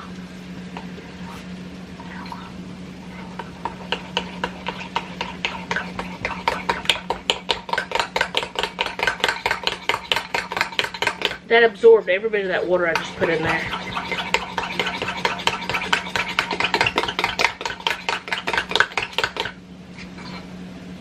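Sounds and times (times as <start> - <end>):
steady low hum: 0.0 - 21.0
utensil stirring in pot: 0.7 - 20.4.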